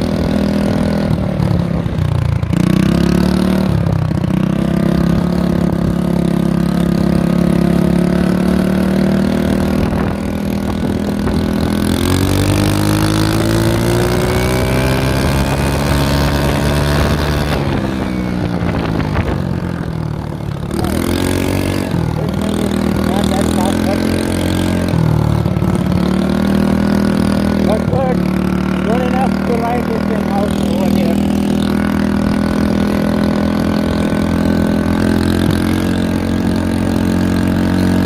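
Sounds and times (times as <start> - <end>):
small engine revving: 0.0 - 38.0.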